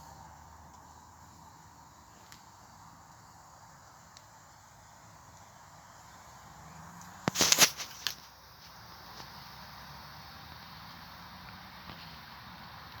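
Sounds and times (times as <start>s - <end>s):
faint steady hiss: 0.0s - 13.0s
campfire crackling and popping: 0.4s - 6.1s, 7.0s - 13.0s.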